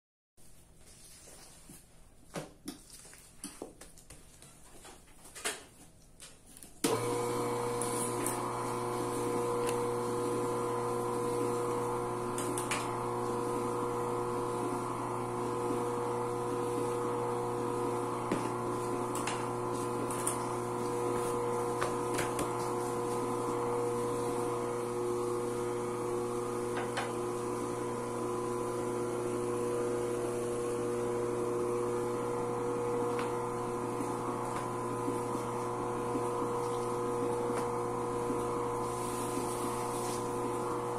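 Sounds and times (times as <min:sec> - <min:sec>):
motor humming: 0:06.9 - 0:40.9.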